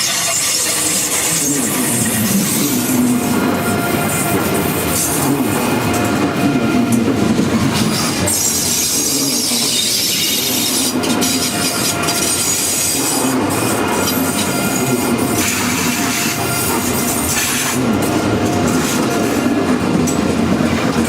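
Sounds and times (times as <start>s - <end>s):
train wheels squealing on rails: 0.0s - 21.0s.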